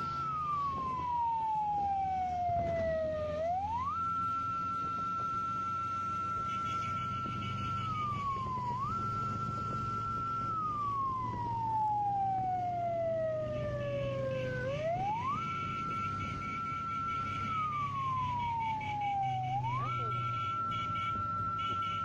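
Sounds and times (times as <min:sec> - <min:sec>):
low rumble inside moving car: 0:00.0 - 0:22.0
siren wailing: 0:00.0 - 0:22.0.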